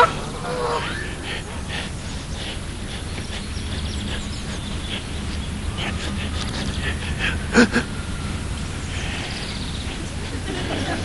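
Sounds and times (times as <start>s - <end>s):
birds calling: 0.0s - 11.0s
steady low hum: 0.0s - 11.0s.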